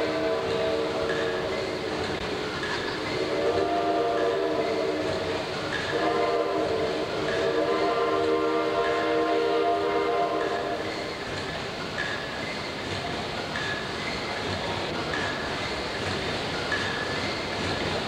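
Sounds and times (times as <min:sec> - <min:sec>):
steam pumping engine running: 0:00.0 - 0:18.0.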